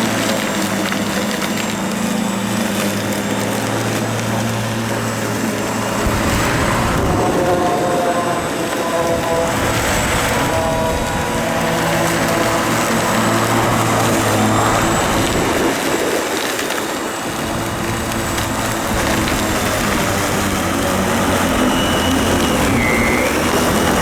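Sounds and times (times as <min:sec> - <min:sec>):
electric lawn mower running: 0:00.0 - 0:24.0.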